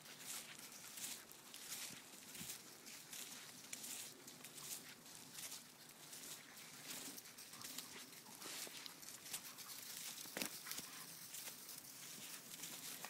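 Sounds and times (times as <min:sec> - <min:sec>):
dogs rustling in dead leaves: 0:00.0 - 0:13.0.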